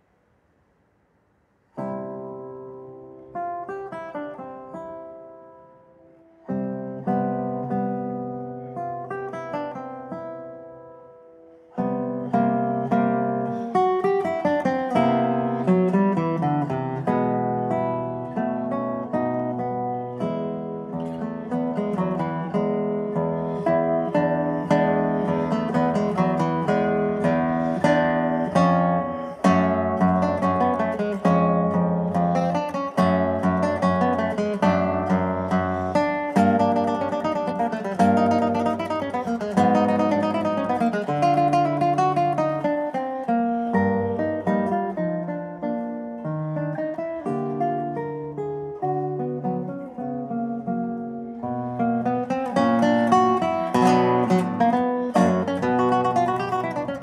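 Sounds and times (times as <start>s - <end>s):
fingerstyle classical guitar: 1.6s - 57.0s.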